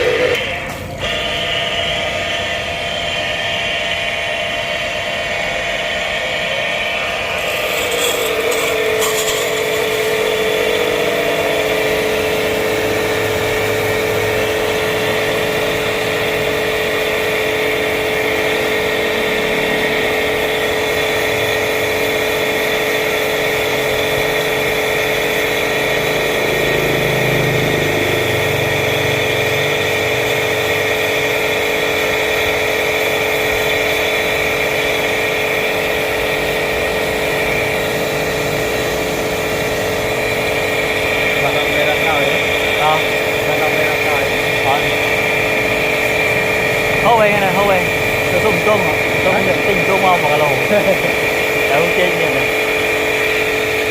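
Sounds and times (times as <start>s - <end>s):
motor hum-whine with hiss: 0.0s - 53.9s.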